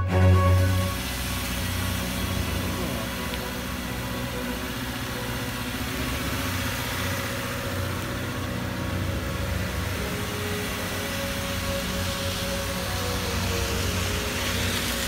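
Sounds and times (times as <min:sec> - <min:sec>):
car engine idling: 0:00.0 - 0:15.0
steady hiss: 0:00.1 - 0:15.0.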